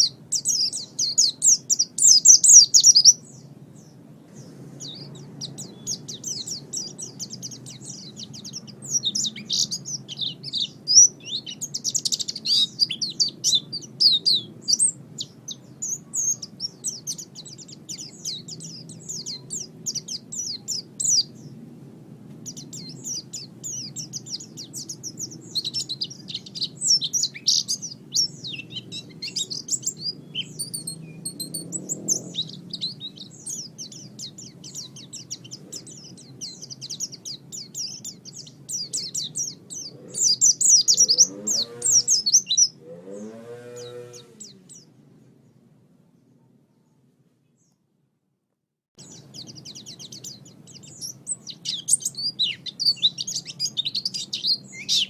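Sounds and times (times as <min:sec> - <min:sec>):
bird twittering song: 0:00.0 - 0:21.6, 0:22.3 - 0:47.8, 0:49.0 - 0:55.0.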